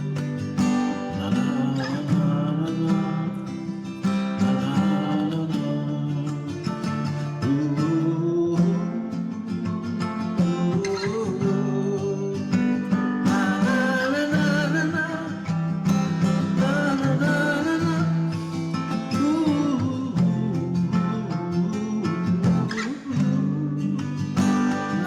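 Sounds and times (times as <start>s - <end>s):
acoustic guitar strumming and plucking: 0.0s - 25.0s.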